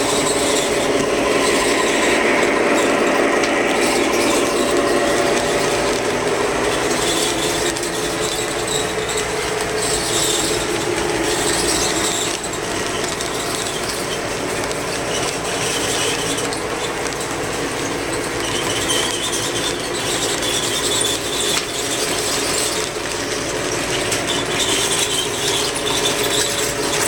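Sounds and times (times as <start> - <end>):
model train motor whirring: 0.0 - 27.0
wheels rolling on rails: 0.0 - 27.0.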